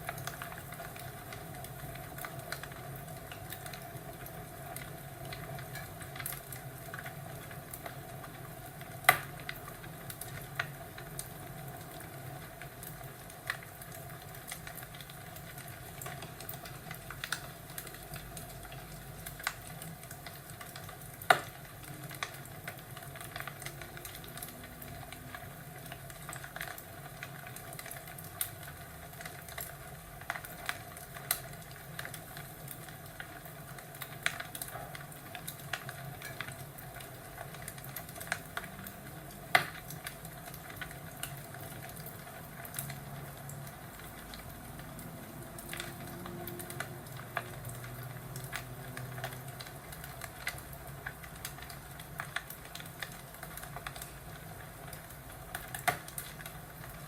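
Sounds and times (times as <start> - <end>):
fireplace crackling: 0.0 - 57.0.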